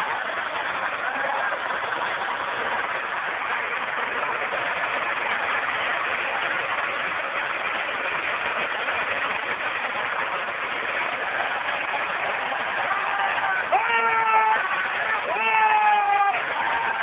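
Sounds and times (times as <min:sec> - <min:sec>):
tractor engines running: 0:00.0 - 0:13.9.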